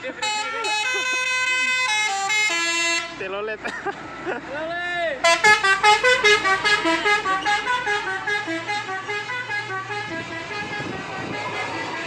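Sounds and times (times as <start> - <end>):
musical truck horn tune: 0.0 - 3.3, 5.2 - 12.0.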